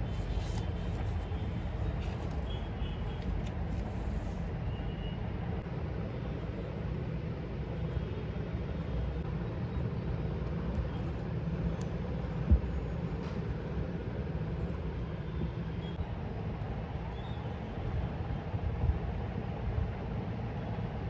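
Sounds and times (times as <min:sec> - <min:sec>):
distant city traffic hum: 0:00.0 - 0:21.0.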